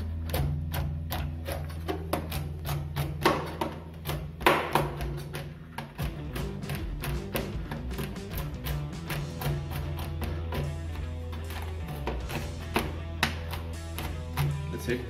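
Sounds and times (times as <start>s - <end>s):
background music: 0.0s - 15.0s
knife chopping on plastic board: 0.0s - 15.0s.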